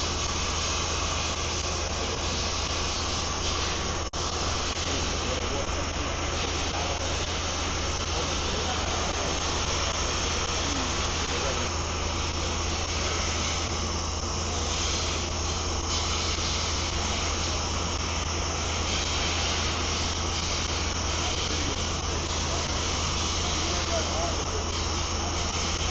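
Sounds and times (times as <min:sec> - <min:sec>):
motors and pump humming: 0:00.0 - 0:25.9.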